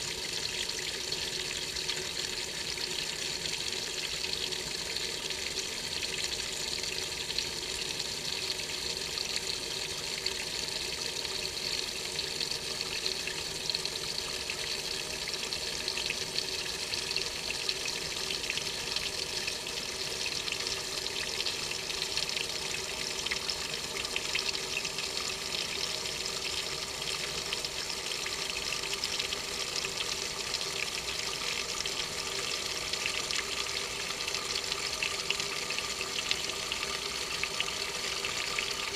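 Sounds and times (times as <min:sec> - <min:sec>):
water running into washing machine: 0:00.0 - 0:38.9.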